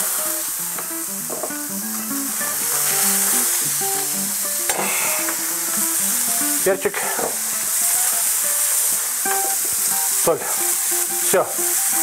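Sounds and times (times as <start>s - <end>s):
background music: 0.0s - 12.0s
burger patties sizzling in a pan: 0.0s - 12.0s.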